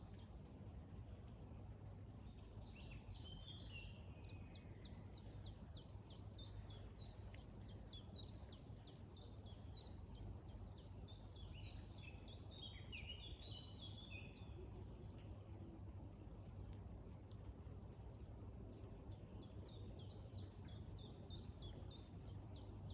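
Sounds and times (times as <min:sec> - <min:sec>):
faint low rumble: 0:00.0 - 0:22.9
songbirds singing: 0:00.0 - 0:22.9.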